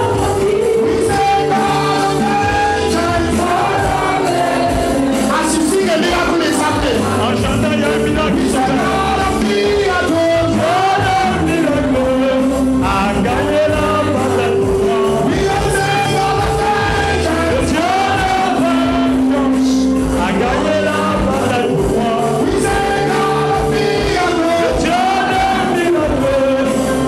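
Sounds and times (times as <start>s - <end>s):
amplified instrumental backing: 0.0s - 27.0s
man singing into microphone: 0.0s - 27.0s.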